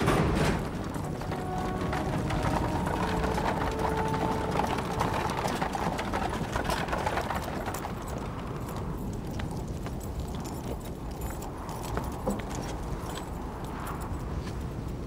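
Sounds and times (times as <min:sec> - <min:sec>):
horse hooves clip-clopping on dirt: 0:00.0 - 0:15.0.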